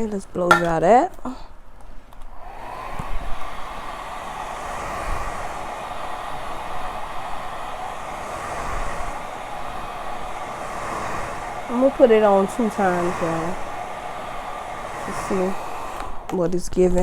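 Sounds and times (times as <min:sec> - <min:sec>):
hair dryer blowing: 0:00.5 - 0:00.9, 0:02.2 - 0:17.0.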